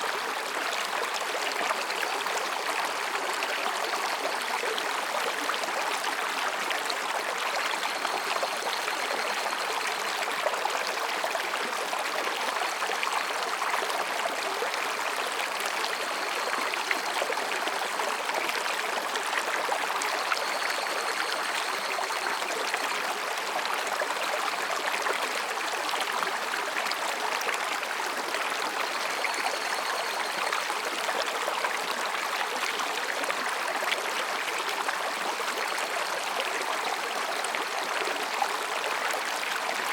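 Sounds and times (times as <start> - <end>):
stream babbling between rocks: 0.0 - 39.9.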